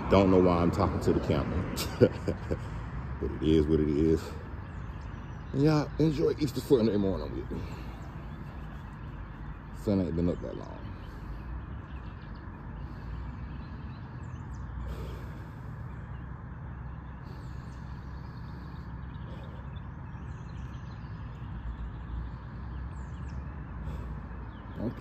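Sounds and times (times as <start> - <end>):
low outdoor rumble: 0.0 - 25.0
faint bird chirps: 3.4 - 25.0.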